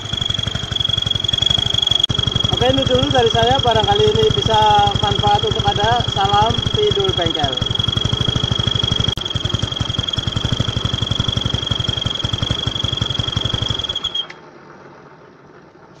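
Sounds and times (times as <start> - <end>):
motor scooter engine idling: 0.0 - 14.3
pulsing toy trumpet tone: 0.0 - 14.3.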